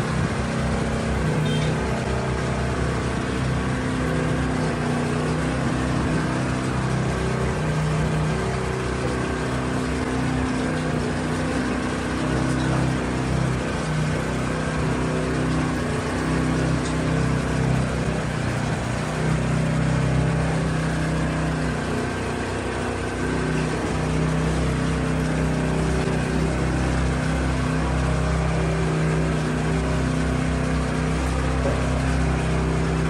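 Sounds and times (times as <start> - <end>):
motor running with hum: 0.0 - 33.0.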